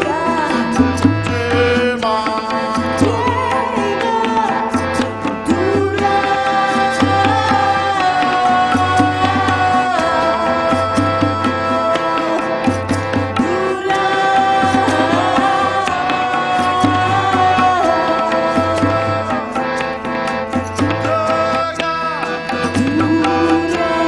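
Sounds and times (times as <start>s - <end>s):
hand drums steady rhythm: 0.0s - 24.0s
harmonium melody: 0.0s - 24.0s.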